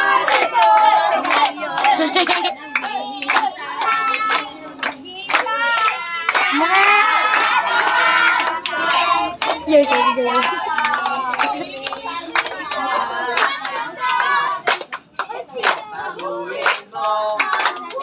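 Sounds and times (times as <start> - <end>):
children and women singing: 0.0 - 18.0
hands clapping: 0.0 - 18.0.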